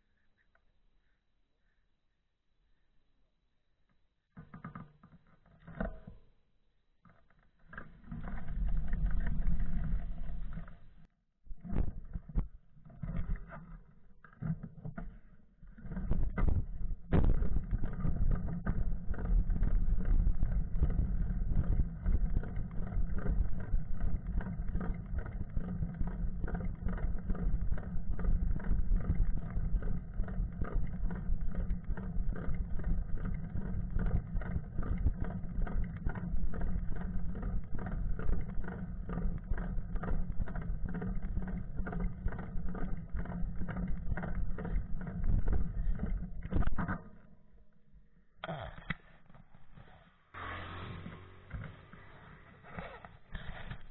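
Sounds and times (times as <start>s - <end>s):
bicycle rumble and rattle: 7.1s - 47.2s, 49.4s - 53.9s.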